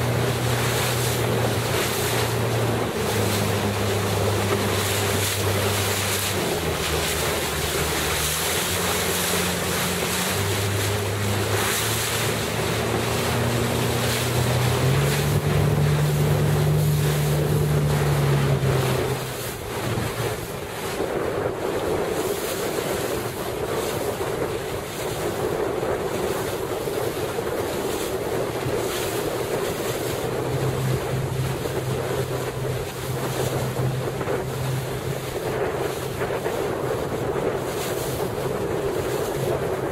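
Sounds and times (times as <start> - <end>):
boat engine running: 0.0 - 39.9
rushing water: 0.0 - 39.9
wind buffeting microphone: 0.0 - 39.9.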